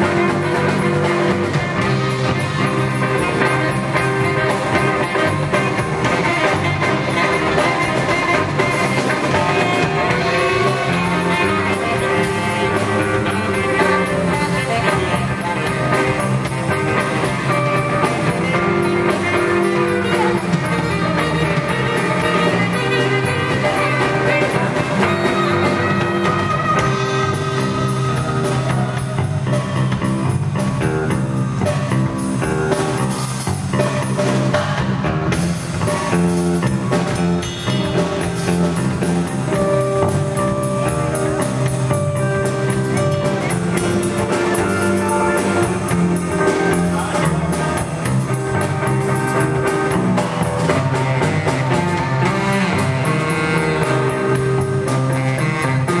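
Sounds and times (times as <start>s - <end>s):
tenor saxophone: 0.0s - 34.6s, 35.3s - 56.0s
drum kit: 0.0s - 56.0s
electric bass: 0.0s - 56.0s
guitar: 0.0s - 56.0s.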